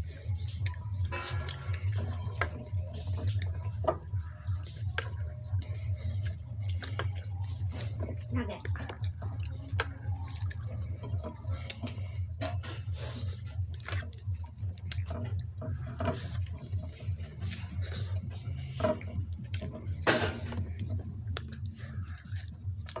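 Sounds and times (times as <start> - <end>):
low hum: 0.0 - 23.0
wet eating sounds: 0.0 - 23.0.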